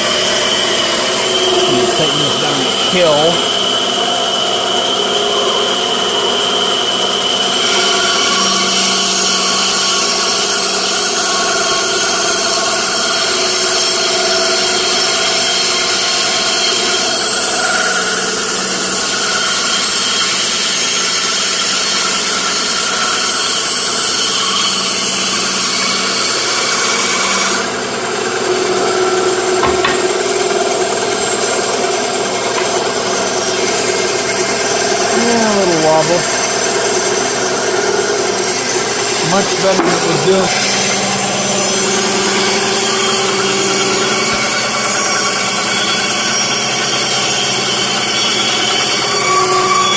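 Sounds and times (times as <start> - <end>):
bandsaw cutting wood: 0.0 - 4.1, 4.8 - 49.9.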